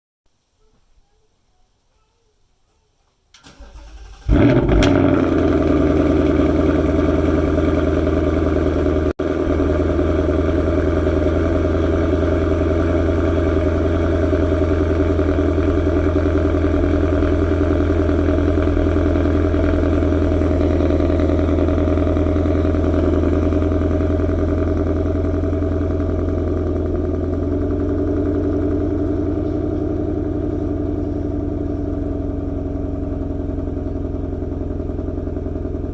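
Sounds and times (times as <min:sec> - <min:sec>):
car engine starting and idling: 0:03.3 - 0:35.9.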